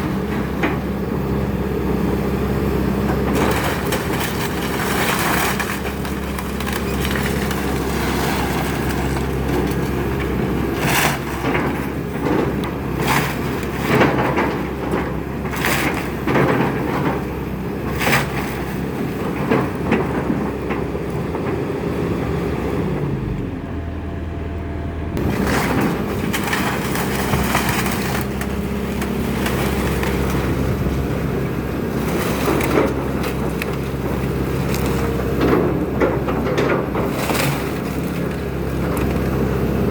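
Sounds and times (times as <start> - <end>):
excavator engine running: 0.0 - 39.9
wood cracking and crashing: 3.1 - 21.8, 25.2 - 39.9.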